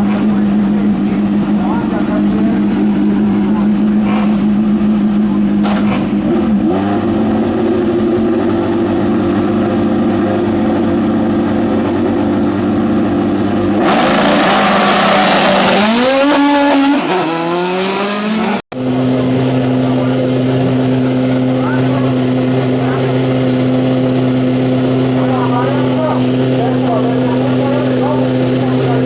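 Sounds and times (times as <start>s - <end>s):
racing car engine idling: 0.0s - 16.3s, 18.7s - 29.0s
car accelerating hard: 0.0s - 29.0s.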